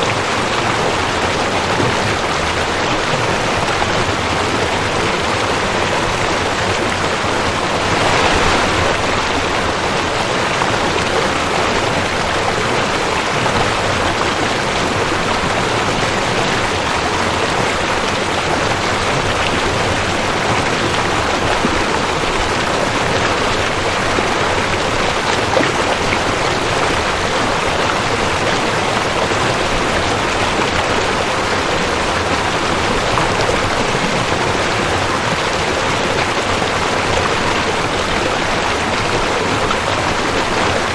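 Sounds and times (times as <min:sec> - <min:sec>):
creek water rushing: 0:00.0 - 0:40.9.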